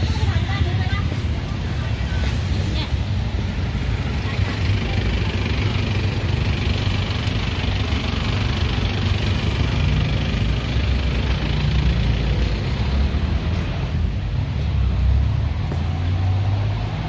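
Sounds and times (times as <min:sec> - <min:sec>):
car and motorbike engines: 0:00.0 - 0:17.0.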